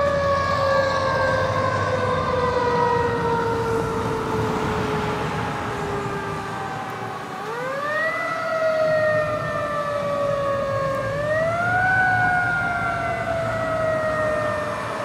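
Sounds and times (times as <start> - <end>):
fire truck siren wailing: 0.0 - 15.0
traffic noise: 0.0 - 15.0.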